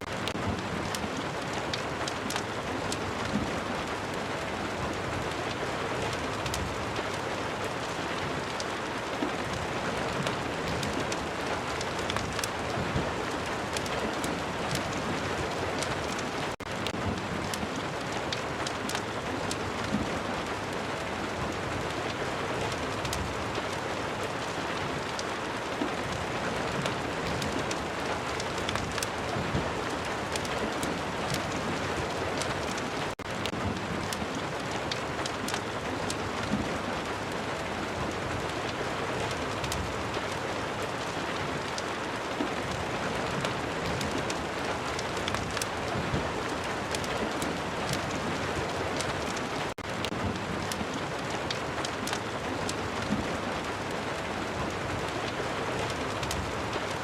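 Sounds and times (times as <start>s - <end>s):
fireplace crackling: 0.0s - 57.0s
heavy rain: 0.0s - 57.0s.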